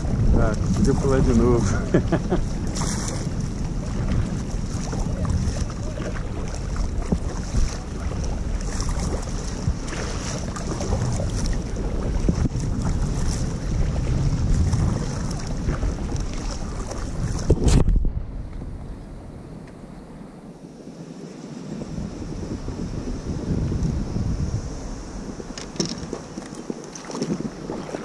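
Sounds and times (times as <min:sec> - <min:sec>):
water washing along kayak hull: 0:00.0 - 0:28.0
wind buffeting microphone: 0:00.0 - 0:28.0.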